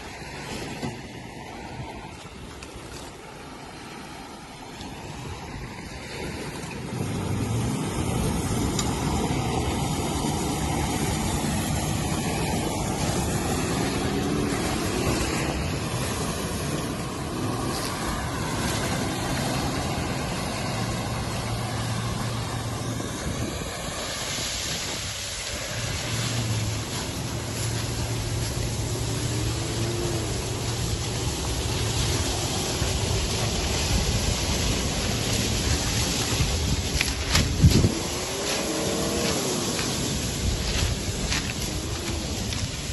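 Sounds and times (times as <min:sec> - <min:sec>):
constant rushing noise: 0:00.0 - 0:42.9
vehicle engine revving: 0:06.8 - 0:42.9.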